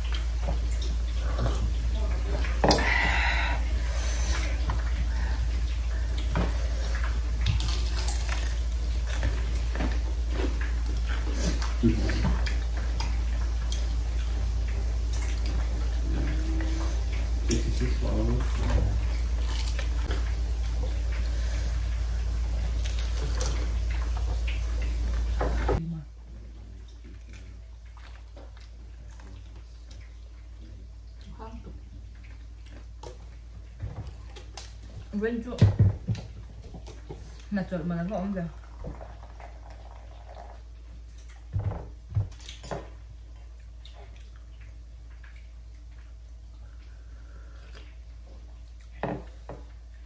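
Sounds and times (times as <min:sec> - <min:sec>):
person chewing food: 0:00.0 - 0:25.8, 0:26.7 - 0:35.1, 0:39.0 - 0:50.0
low electrical hum: 0:00.0 - 0:50.0.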